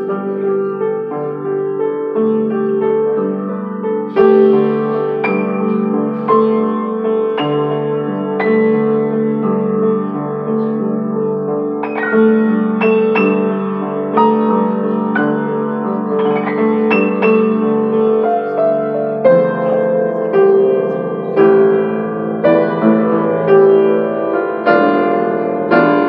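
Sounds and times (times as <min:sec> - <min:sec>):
grand piano chords and melody: 0:00.0 - 0:26.0.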